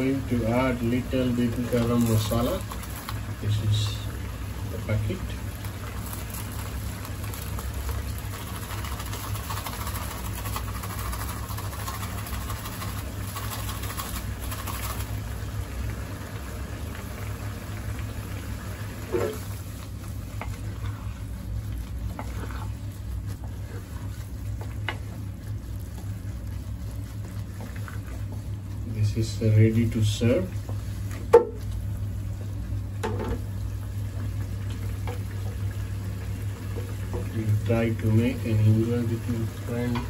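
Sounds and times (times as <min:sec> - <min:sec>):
steady low hum: 0:00.0 - 0:40.0
thick gravy bubbling in a pan: 0:00.0 - 0:40.0.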